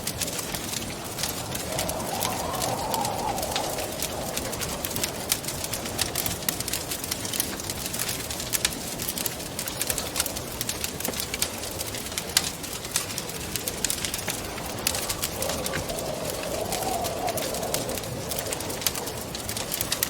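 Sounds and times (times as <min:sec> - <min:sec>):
wind blowing and moaning: 0:00.0 - 0:20.0
wood fire crackling and popping: 0:00.0 - 0:20.0.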